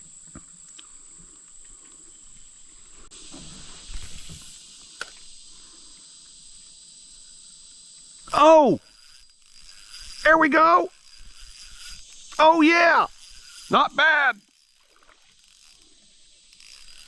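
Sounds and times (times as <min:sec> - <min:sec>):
high-pitched insect droning: 0:00.0 - 0:17.0.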